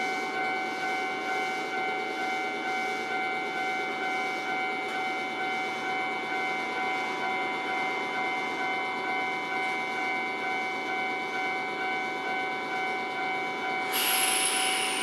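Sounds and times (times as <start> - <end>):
level crossing warning bell ringing: 0.4 - 15.0.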